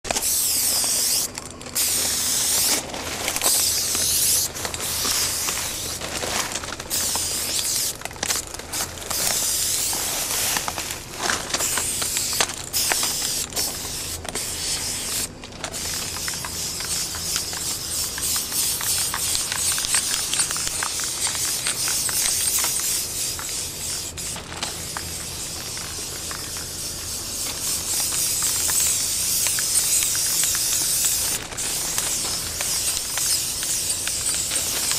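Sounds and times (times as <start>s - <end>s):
spray paint can hissing: 0.1s - 6.0s, 6.8s - 10.8s, 11.6s - 34.9s.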